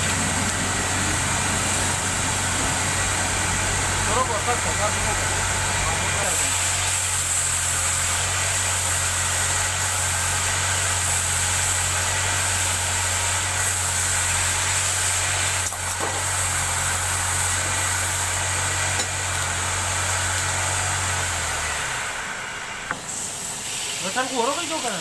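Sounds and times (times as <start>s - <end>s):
lathe motor humming: 0.0s - 25.0s.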